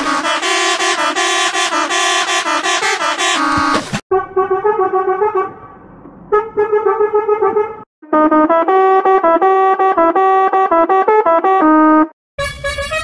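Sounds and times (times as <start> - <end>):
truck horn playing a melody: 0.0 - 5.6, 6.3 - 13.0.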